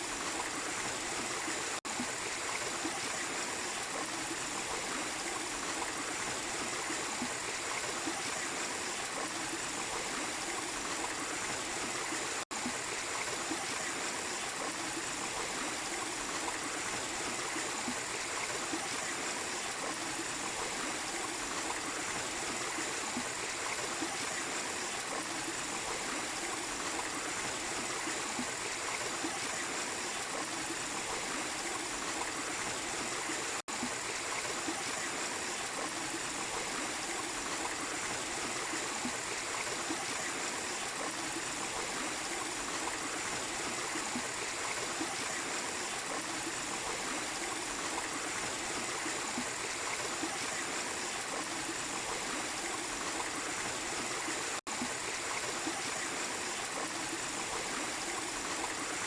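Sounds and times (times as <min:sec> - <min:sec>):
waterfall and stream over rocks: 0:00.0 - 0:59.0.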